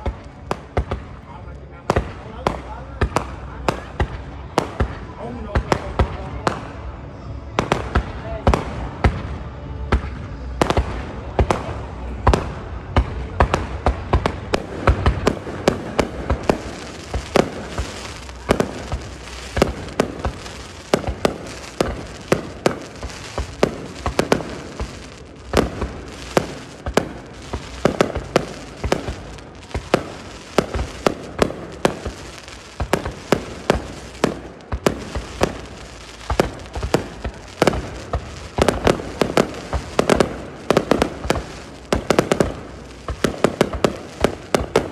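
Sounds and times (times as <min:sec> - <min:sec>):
fireworks bursting with sharp bangs: 0:00.0 - 0:07.0, 0:07.6 - 0:44.9.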